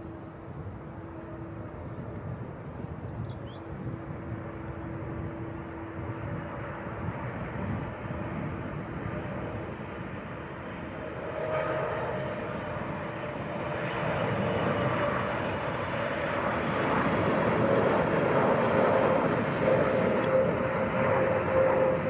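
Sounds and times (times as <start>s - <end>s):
jet engine rumble: 0.0s - 22.0s
jet engine whine: 0.0s - 22.0s.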